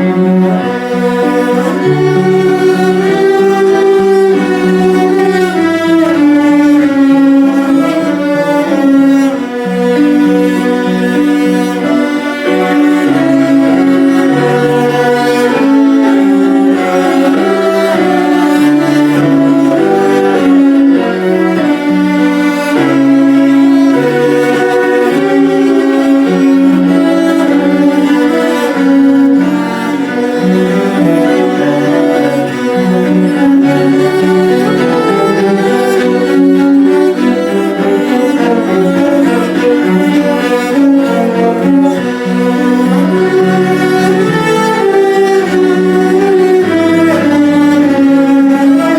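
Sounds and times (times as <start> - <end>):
cello ensemble playing: 0.0 - 48.9.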